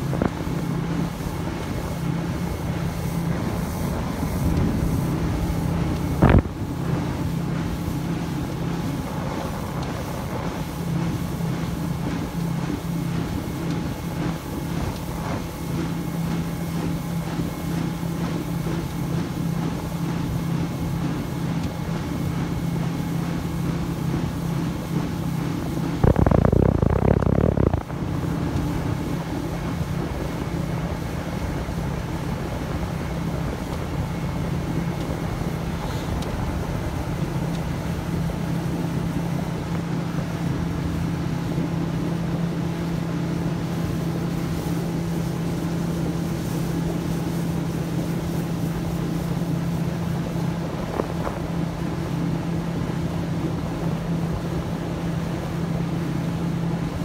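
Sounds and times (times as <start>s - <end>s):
outboard motor humming: 0.0s - 57.0s
water and wind noise: 0.0s - 57.0s.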